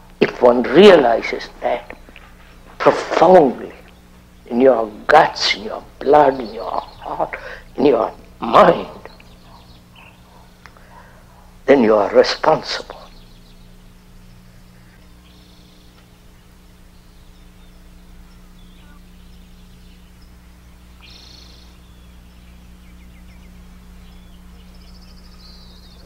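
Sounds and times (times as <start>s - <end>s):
birds chirping: 0.0s - 26.0s
low electrical hum: 0.0s - 26.0s
bird trill: 3.8s - 26.0s.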